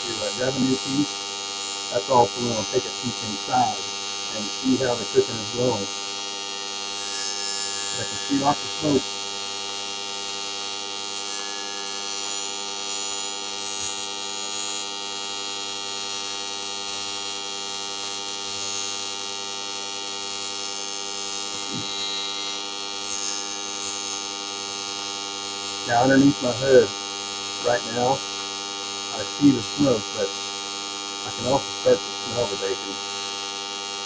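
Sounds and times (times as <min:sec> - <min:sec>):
welding arc buzzing: 0:00.0 - 0:34.0.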